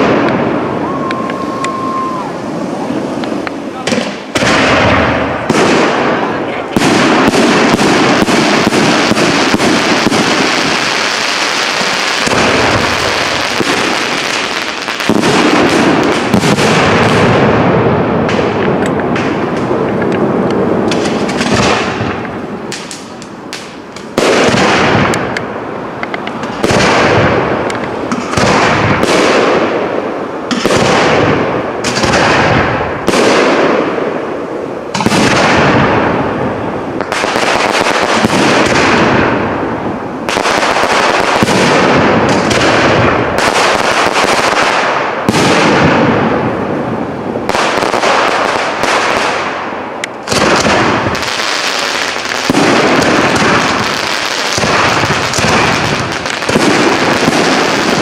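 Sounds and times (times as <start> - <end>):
fireworks bangs with rolling echo: 0.0 - 58.0.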